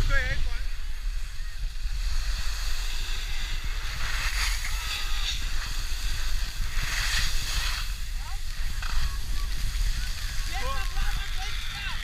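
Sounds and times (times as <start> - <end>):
wind buffeting microphone: 0.0 - 12.0
sliding on packed snow: 0.2 - 12.0.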